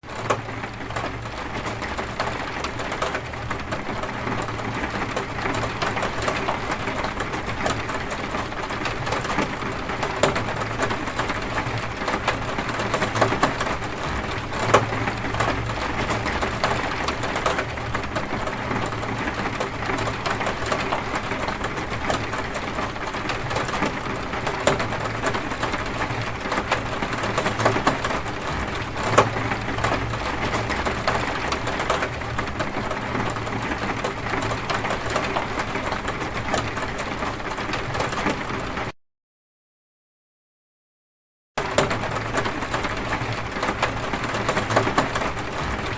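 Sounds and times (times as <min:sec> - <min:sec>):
heavy rain on a window: 0:00.0 - 0:39.0, 0:41.6 - 0:45.9.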